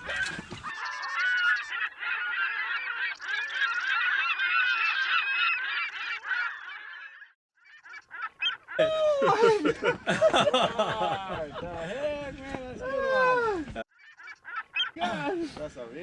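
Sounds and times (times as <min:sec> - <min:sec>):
flock of birds honking and squawking: 0:00.0 - 0:09.6, 0:11.5 - 0:16.0.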